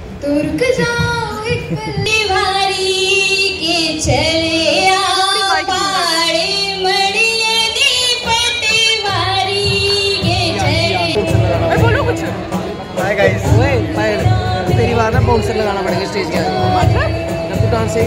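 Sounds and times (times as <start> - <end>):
woman singing into a microphone: 0.2 - 18.0
instrumental accompaniment: 0.9 - 18.0.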